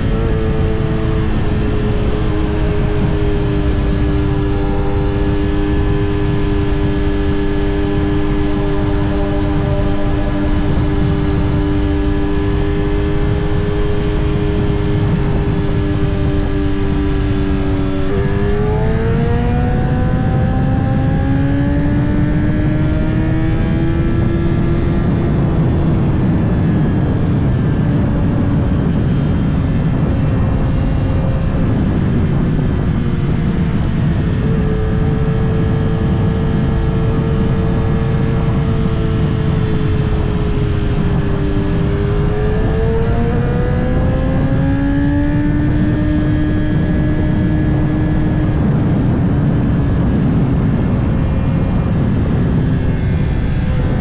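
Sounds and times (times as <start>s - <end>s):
motorcycle engine revving: 0.0s - 54.0s
wind and road rush: 0.0s - 54.0s.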